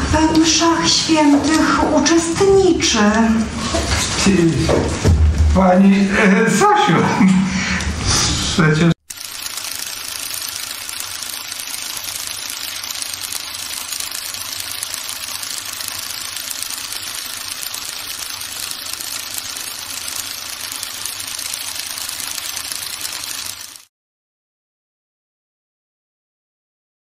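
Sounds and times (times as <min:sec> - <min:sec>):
film projector whirring: 0:00.0 - 0:05.4, 0:06.2 - 0:23.9.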